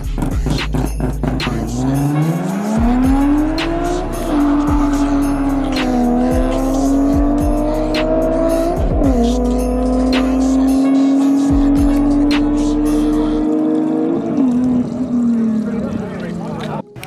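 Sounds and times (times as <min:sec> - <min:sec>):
music with a steady beat: 0:00.0 - 0:14.2
car engine accelerating hard: 0:00.0 - 0:16.8.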